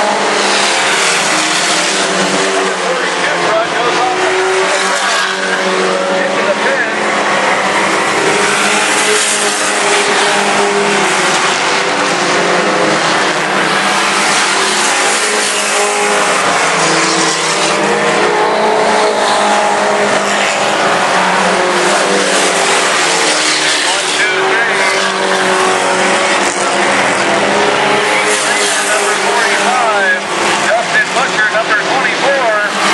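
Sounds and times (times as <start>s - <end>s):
racing truck engines: 0.0s - 32.9s.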